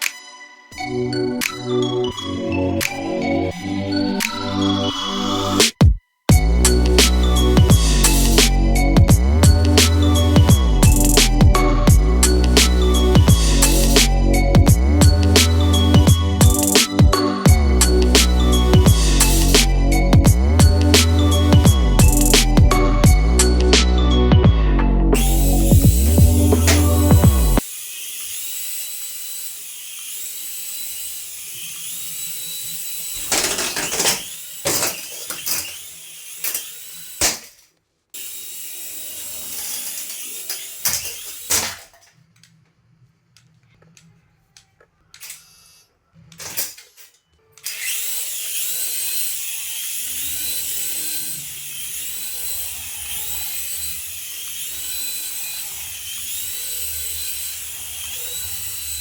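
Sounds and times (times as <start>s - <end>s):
toy electric motor whining: 0.0s - 5.7s, 6.3s - 23.9s, 25.2s - 42.6s, 43.4s - 59.0s.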